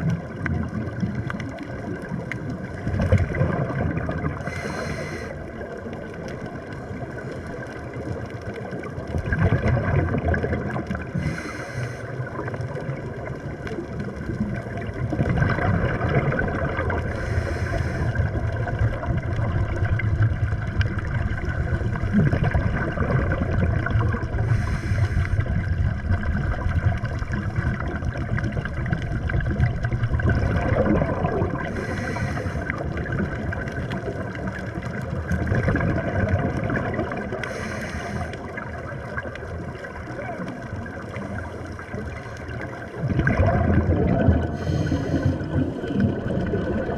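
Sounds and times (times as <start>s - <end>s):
exhaled bubbles hissing and gurgling: 0.0s - 46.9s
low underwater rumble: 0.0s - 46.9s.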